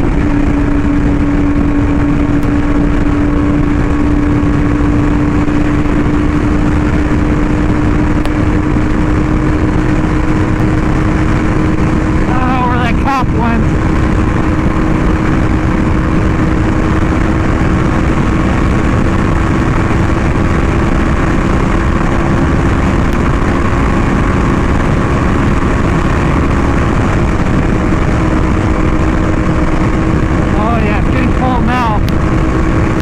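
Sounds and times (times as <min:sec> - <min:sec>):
motorcycle engine cruising: 0:00.0 - 0:33.0
wind rush: 0:00.0 - 0:33.0.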